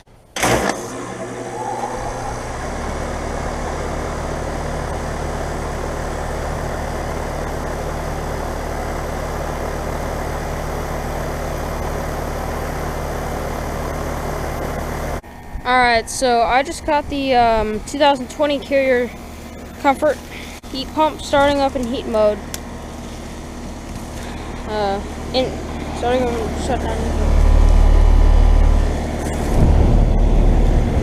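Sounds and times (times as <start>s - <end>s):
heat pump rising tone: 0.4s - 31.0s
heat pump hum and fan: 0.9s - 31.0s.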